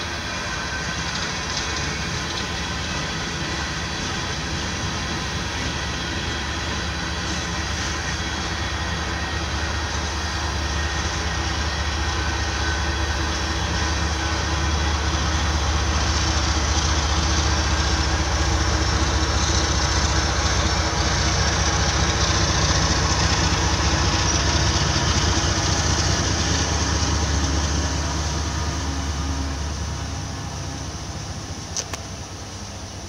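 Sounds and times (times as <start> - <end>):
locomotive diesel engines droning: 0.0 - 33.0.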